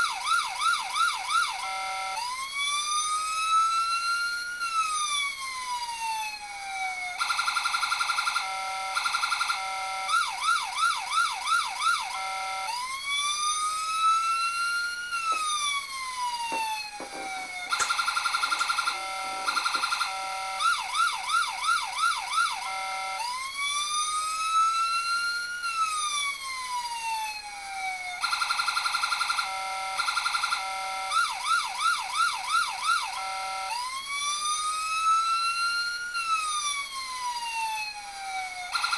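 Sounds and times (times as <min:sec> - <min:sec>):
electronic police siren: 0:00.0 - 0:38.9.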